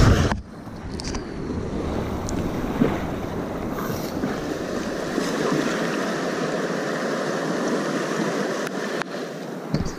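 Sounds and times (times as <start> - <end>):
paddle splashing: 1.7 - 9.9
river rapids rushing: 1.8 - 9.9.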